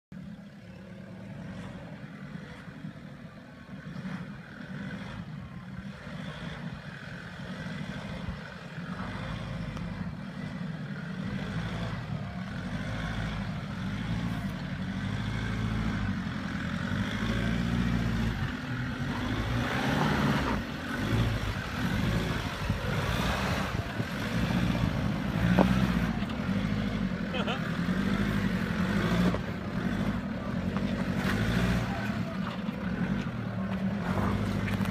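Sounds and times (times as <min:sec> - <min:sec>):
diesel engine at low revs: 0:00.0 - 0:34.9.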